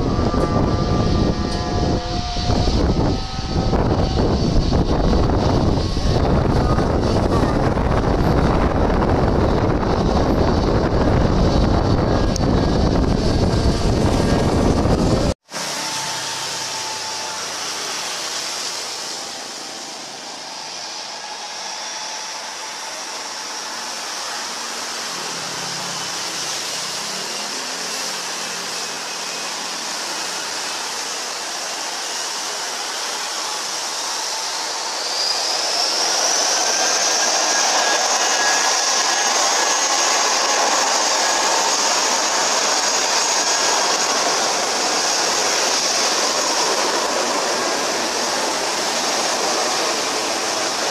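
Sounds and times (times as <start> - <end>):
jet engines whining: 0.0 - 50.9.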